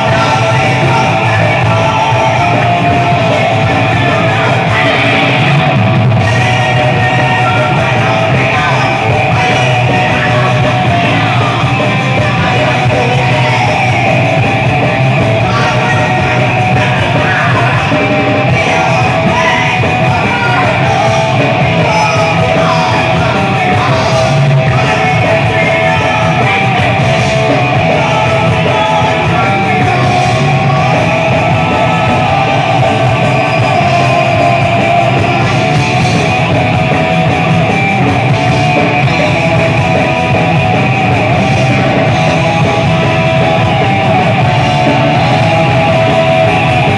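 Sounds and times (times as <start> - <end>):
drum kit: 0.0 - 46.9
electric guitars: 0.0 - 46.9.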